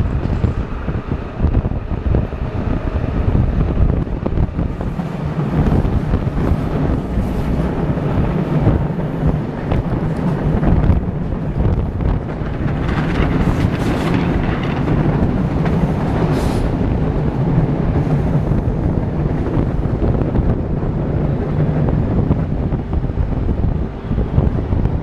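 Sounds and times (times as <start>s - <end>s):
train wheels rumbling on rail: 0.0s - 25.0s
wind rush: 0.0s - 25.0s.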